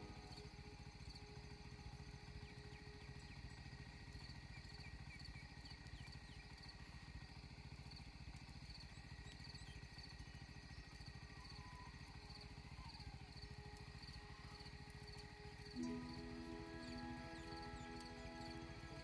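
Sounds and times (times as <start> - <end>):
insects chirping in pulses: 0.0 - 7.3, 8.7 - 19.0.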